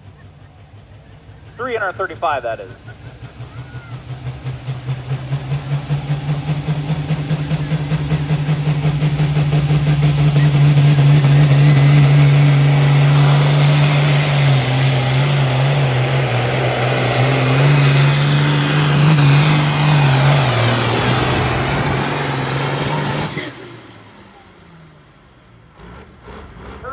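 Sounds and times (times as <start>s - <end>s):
vehicle engine running loud: 0.0s - 26.9s.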